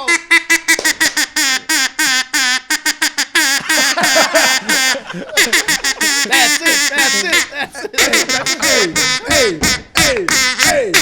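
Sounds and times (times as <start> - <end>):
duck call quacks: 0.0 - 11.0.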